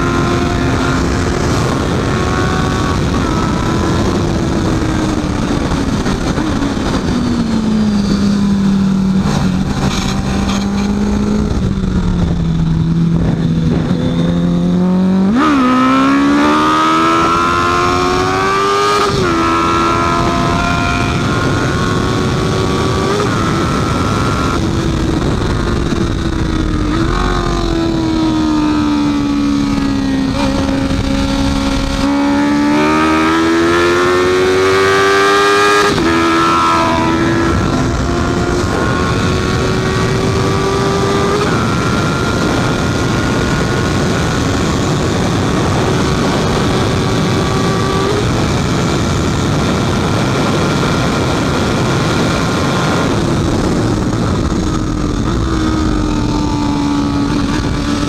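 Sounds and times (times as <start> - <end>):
motorcycle engine running hard: 0.0 - 58.0
steady rushing noise: 0.0 - 58.0.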